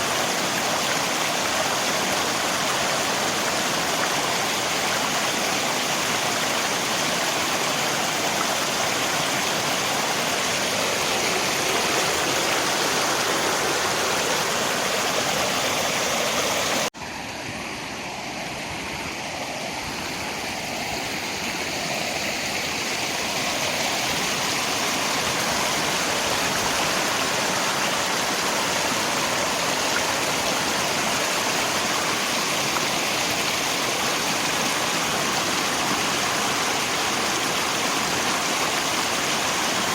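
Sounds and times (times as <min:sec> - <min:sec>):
rain: 0:00.0 - 0:16.9, 0:18.0 - 0:39.9
river water rushing: 0:00.0 - 0:39.9.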